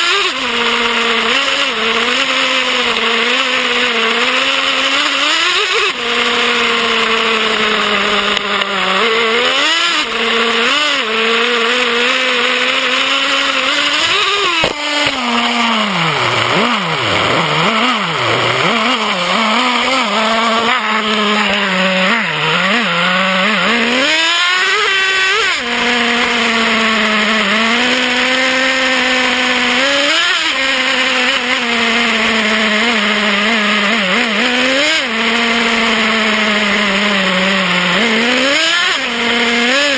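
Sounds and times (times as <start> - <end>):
small nitro engine revving: 0.0 - 39.9.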